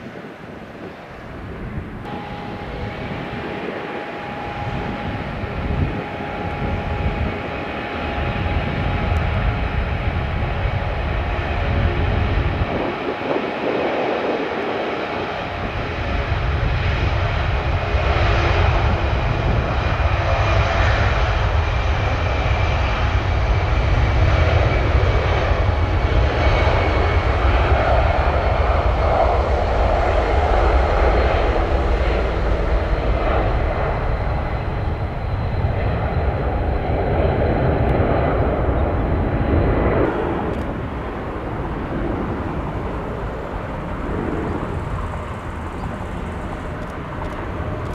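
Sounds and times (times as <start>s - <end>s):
faint high engine whine: 0.0s - 47.9s
jet engines rumbling: 0.0s - 47.9s.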